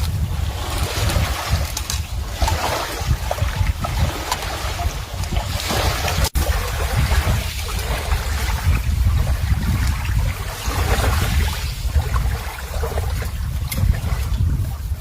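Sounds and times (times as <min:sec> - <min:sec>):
running water: 0:00.0 - 0:15.0
wind buffeting microphone: 0:00.0 - 0:15.0.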